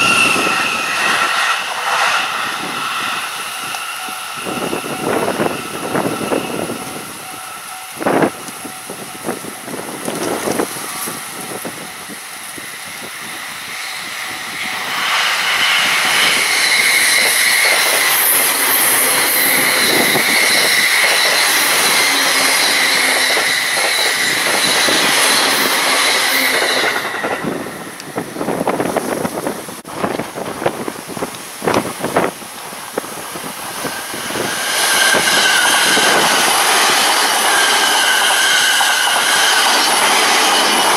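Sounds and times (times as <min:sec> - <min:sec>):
electric train passing: 0:00.0 - 0:40.9
wind buffeting the microphone: 0:00.0 - 0:40.9.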